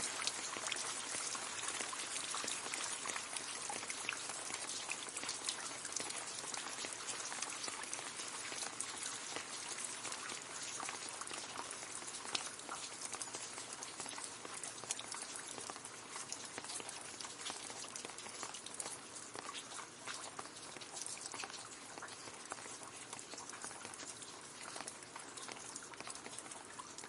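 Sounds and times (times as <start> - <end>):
rain falling on leaves: 0.0 - 27.0.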